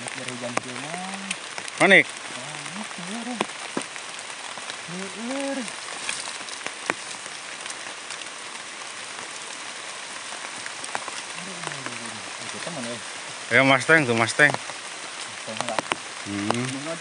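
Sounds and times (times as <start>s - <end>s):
drizzle falling on foliage: 0.0s - 17.0s.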